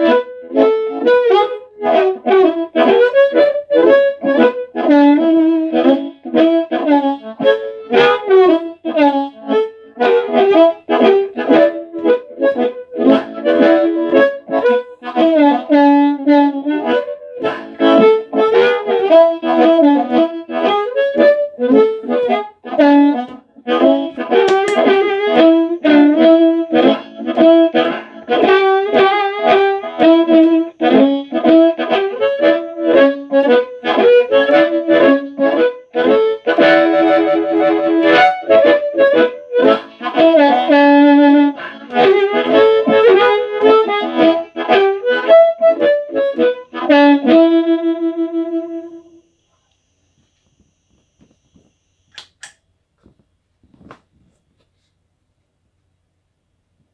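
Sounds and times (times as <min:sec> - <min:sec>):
amplified blues harmonica: 0:00.0 - 0:52.1.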